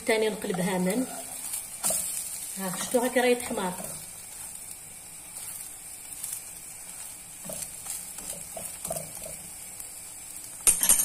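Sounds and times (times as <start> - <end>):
crepe sizzling in a pan: 0.0 - 11.0
spatula against pan: 0.3 - 9.6.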